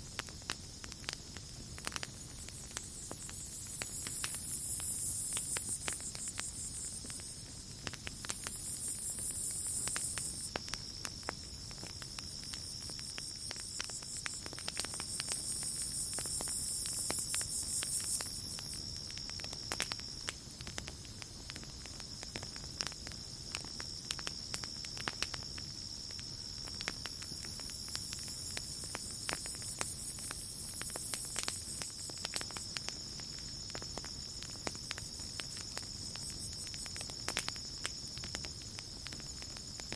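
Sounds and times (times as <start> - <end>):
campfire crackling: 0.0 - 39.9
cricket trilling: 0.0 - 39.9.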